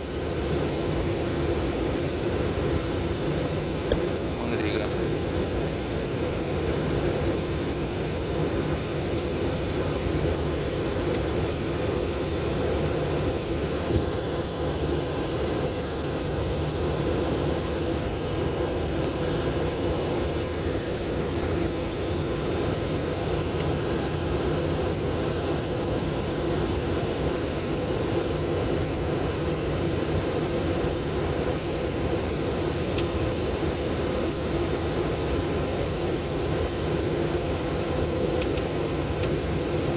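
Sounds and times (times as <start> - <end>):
airliner cabin engine drone: 0.0 - 39.9
faint high whine: 0.0 - 39.9.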